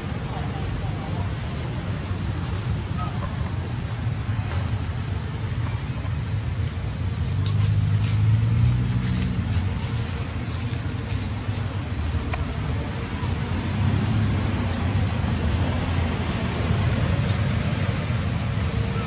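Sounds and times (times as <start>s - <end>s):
road traffic rumble: 0.0s - 19.0s
vehicle engine hum: 0.0s - 19.0s.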